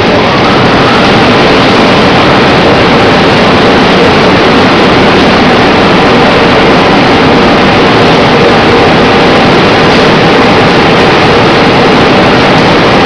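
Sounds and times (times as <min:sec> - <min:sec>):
car wash machinery running: 0:00.0 - 0:13.0.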